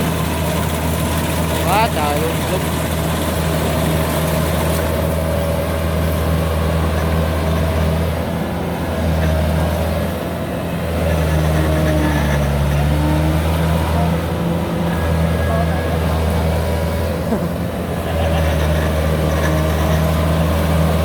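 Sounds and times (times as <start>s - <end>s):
combine harvester diesel engine running: 0.0s - 21.0s.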